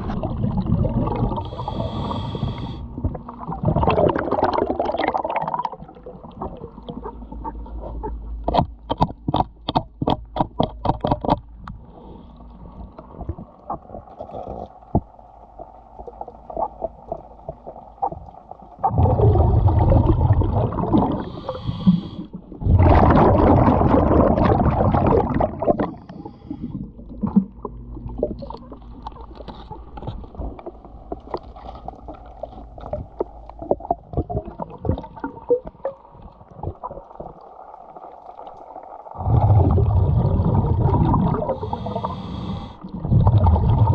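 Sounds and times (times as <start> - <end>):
underwater bubbling: 0.0 - 43.9.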